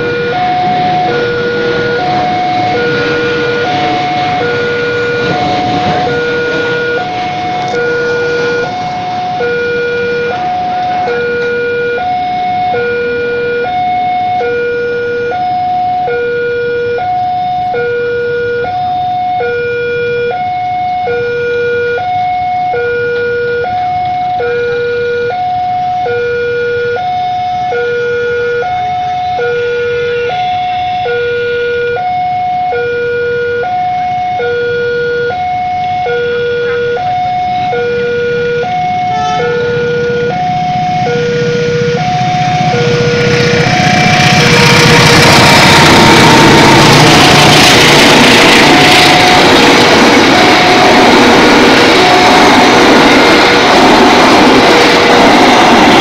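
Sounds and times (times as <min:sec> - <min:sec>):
level crossing two-tone alarm: 0:00.0 - 0:56.0.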